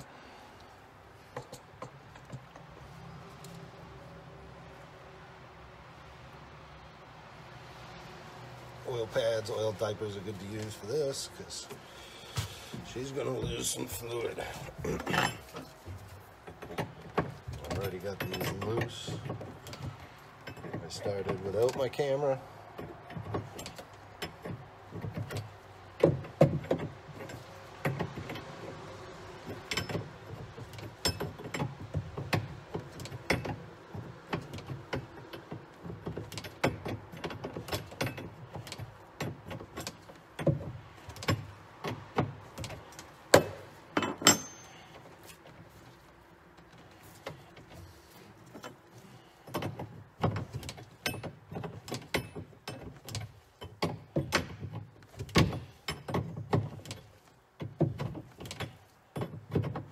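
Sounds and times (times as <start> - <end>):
handling rustle: 8.5 - 25.9, 26.8 - 59.9.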